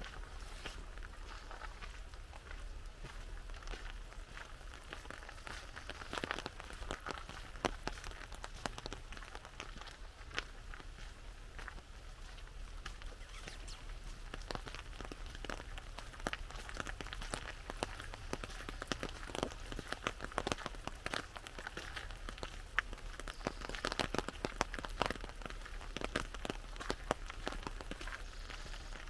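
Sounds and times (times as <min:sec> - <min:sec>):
rain on an umbrella: 0:03.4 - 0:11.0, 0:13.1 - 0:29.0.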